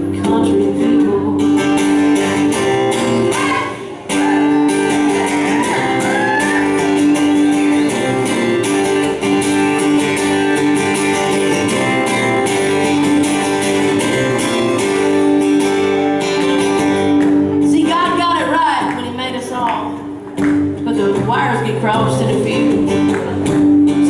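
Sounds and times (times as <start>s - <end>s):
country guitars playing: 0.0s - 24.0s.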